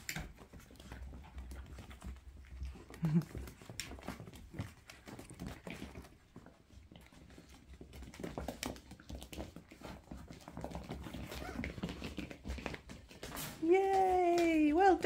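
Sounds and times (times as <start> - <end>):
puppy claws clicking on tiles: 0.0 - 14.6.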